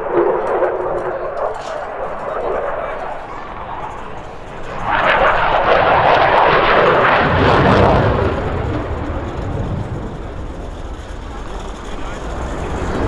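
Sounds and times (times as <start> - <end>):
jet engine flying past: 0.0 - 13.0.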